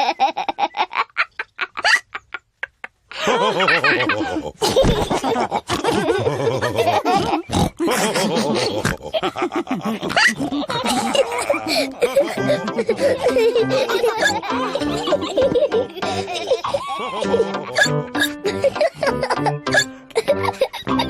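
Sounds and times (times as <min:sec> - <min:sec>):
cartoon pigs laughing with snorts: 0:00.0 - 0:21.0.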